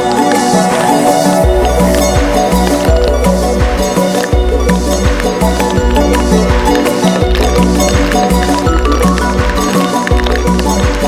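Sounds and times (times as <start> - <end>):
music with beat and bass: 0.0 - 11.0.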